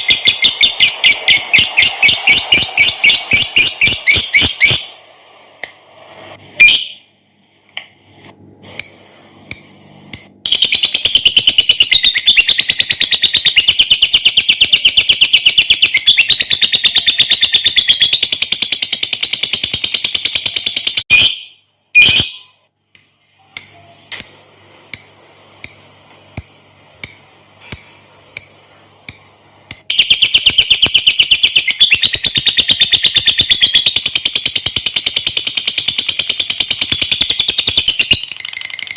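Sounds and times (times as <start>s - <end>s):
sharp bird chirps: 0.0s - 5.0s, 8.2s - 38.9s.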